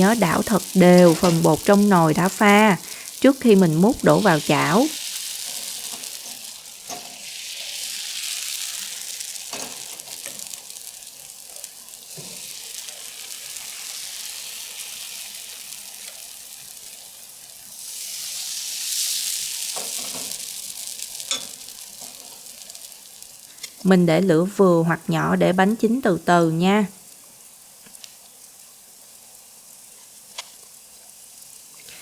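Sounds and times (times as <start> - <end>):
batter sizzling in hot oil: 0.0 - 32.0.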